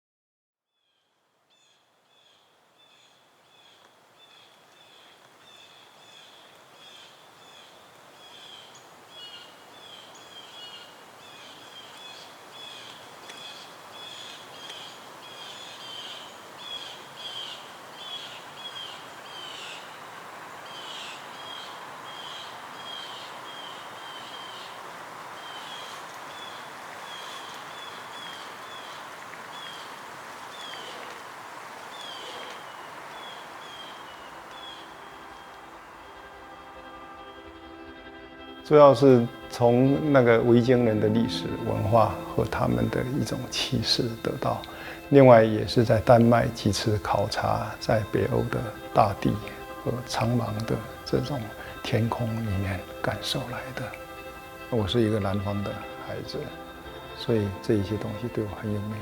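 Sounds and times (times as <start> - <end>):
bird chirping: 0.8 - 31.2, 31.9 - 59.0.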